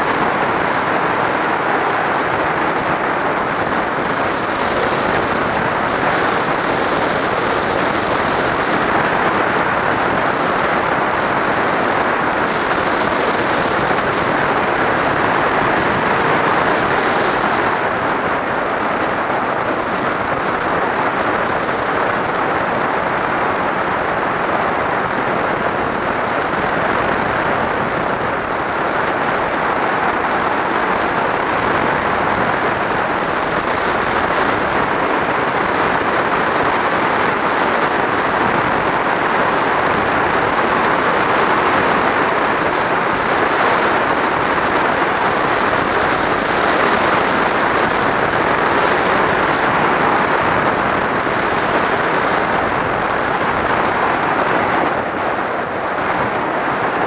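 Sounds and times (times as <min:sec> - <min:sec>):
road noise: 0:00.0 - 0:57.0
wind rushing over microphone: 0:00.0 - 0:57.0.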